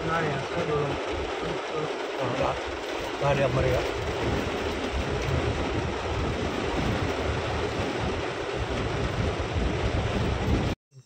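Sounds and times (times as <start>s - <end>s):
heavy rain on car roof: 0.0s - 10.8s
vehicle driving on rough road: 0.0s - 10.8s.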